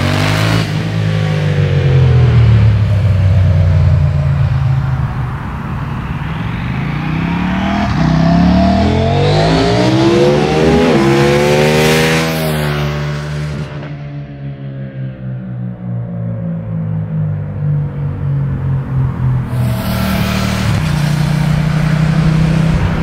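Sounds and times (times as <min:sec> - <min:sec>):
motorcycle engine accelerating: 0:00.0 - 0:14.8, 0:19.3 - 0:23.0.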